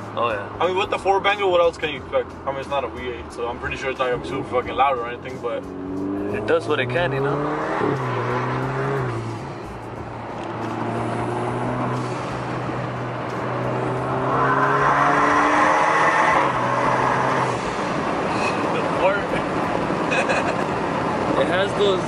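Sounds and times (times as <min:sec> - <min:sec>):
car engine accelerating: 0:03.5 - 0:22.0.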